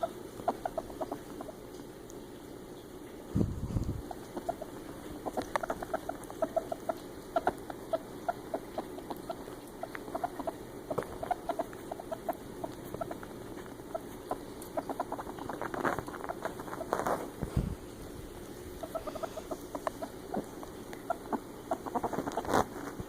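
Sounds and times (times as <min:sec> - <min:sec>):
ferret clucking: 0:00.0 - 0:02.2, 0:03.8 - 0:17.4, 0:18.2 - 0:23.0.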